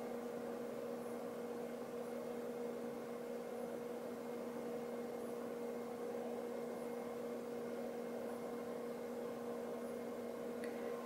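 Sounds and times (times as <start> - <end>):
low electrical hum: 0.0 - 11.0
soft background hiss: 0.0 - 11.0.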